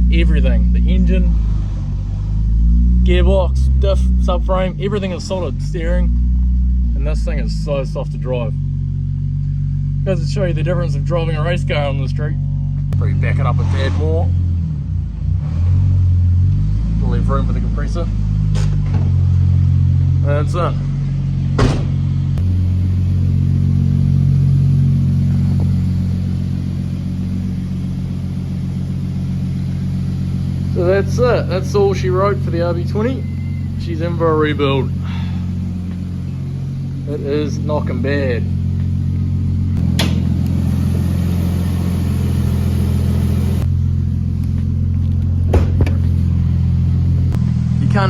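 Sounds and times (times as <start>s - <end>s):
engine running at low revs: 0.0s - 48.0s.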